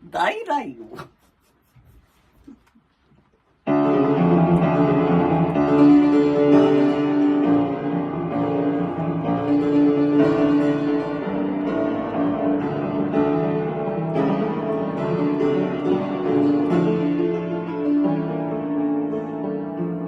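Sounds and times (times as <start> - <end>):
piano music: 3.6 - 20.0.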